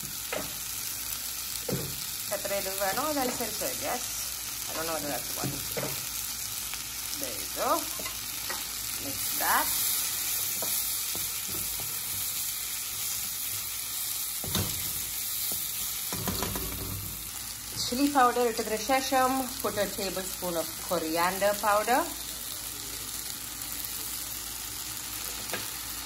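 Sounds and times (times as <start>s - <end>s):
curry sizzling in a wok: 0.0s - 26.0s.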